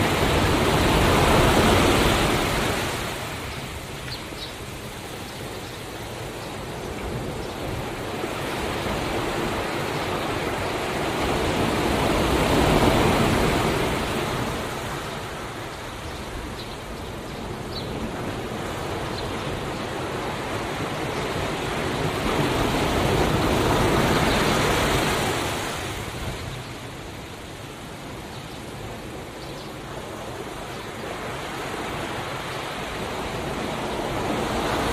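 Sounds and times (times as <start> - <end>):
ocean waves on a shore: 0.0 - 34.9.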